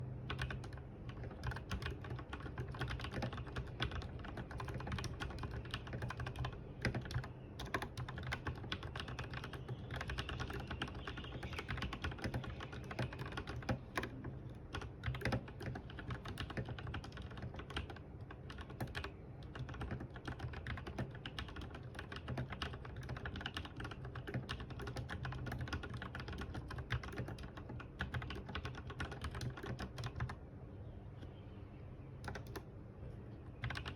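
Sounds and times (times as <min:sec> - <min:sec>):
fast mechanical keyboard typing: 0:00.3 - 0:30.4, 0:32.2 - 0:32.6, 0:33.5 - 0:33.9.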